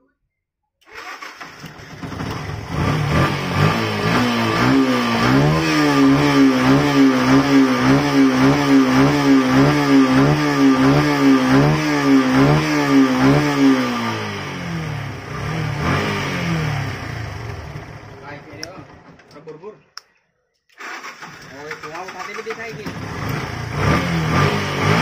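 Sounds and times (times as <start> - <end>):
motorcycle engine revving: 1.0 - 19.3, 20.8 - 25.0.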